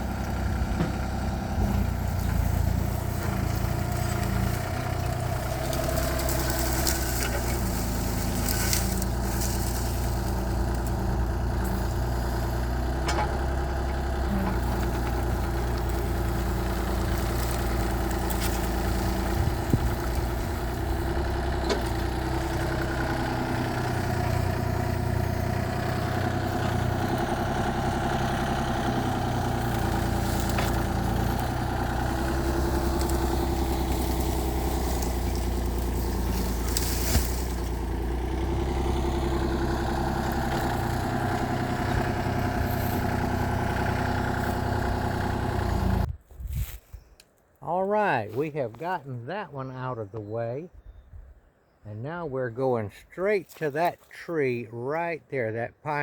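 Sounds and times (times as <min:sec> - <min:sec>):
excavator diesel engine running: 0:00.0 - 0:46.1.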